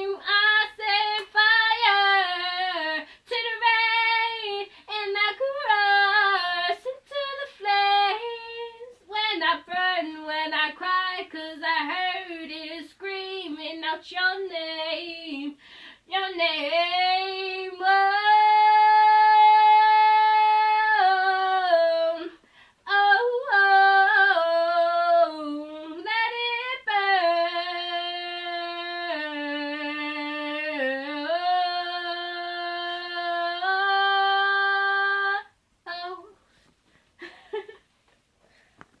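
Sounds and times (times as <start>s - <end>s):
woman singing unaccompanied: 0.0s - 36.4s.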